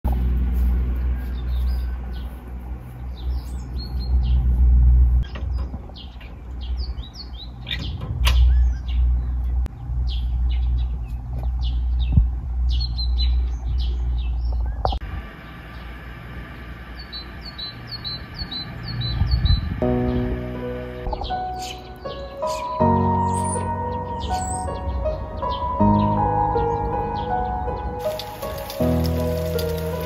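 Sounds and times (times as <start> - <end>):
small birds chirping: 0.6 - 4.6, 5.2 - 16.0, 16.9 - 30.0.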